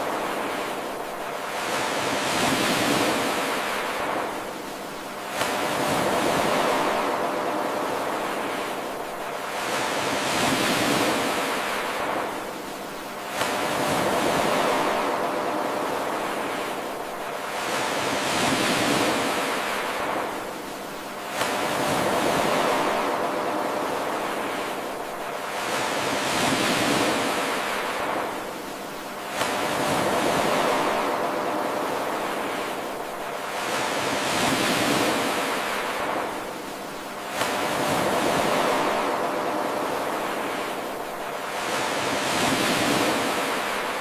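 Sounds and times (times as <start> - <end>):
ocean waves washing on shore: 0.0 - 44.0.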